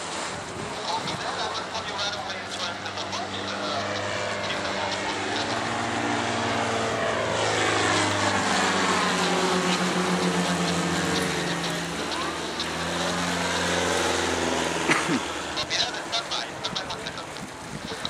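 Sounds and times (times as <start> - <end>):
propeller planes droning overhead: 0.0 - 18.0.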